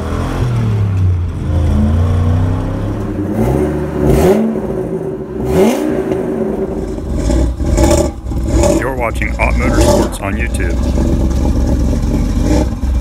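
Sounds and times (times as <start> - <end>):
pickup truck engine revving: 1.3 - 13.0.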